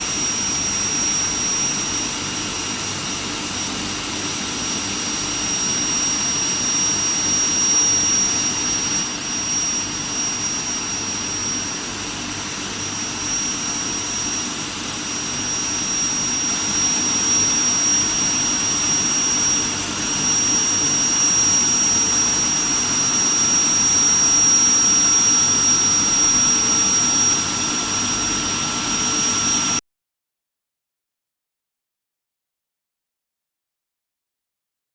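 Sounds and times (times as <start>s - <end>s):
high-pitched machine whine: 0.0s - 29.8s.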